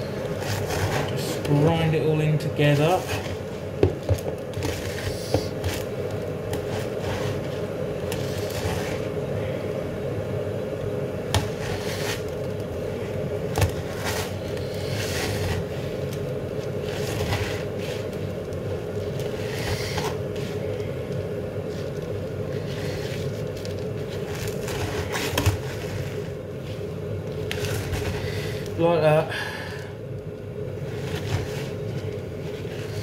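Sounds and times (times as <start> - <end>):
steady low hum: 0.0 - 33.0
hand kneading meat scraping: 0.1 - 2.0, 2.6 - 9.2, 11.4 - 12.9, 13.5 - 28.6, 30.8 - 33.0.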